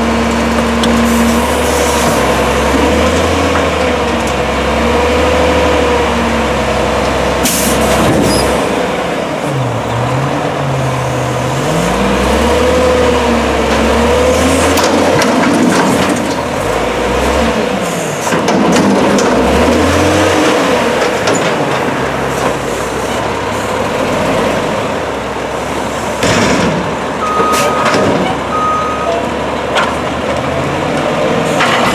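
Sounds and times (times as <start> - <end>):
diesel truck engine revving: 0.0 - 31.9.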